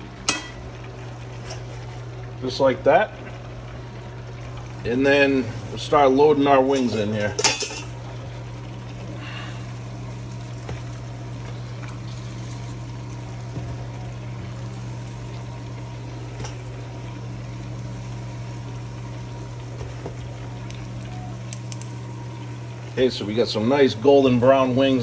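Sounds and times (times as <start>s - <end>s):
low hum: 0.0s - 25.0s
oil bubbling and sizzling: 0.0s - 25.0s.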